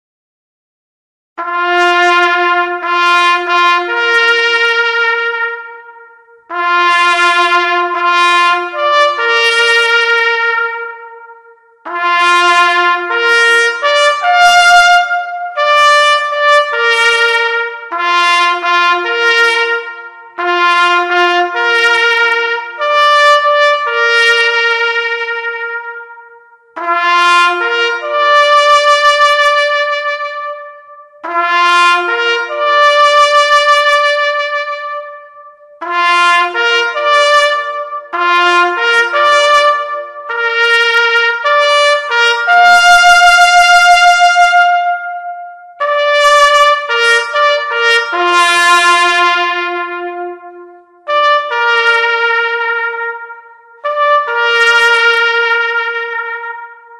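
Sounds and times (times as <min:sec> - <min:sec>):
solo trumpet melody: 0:01.4 - 0:56.9.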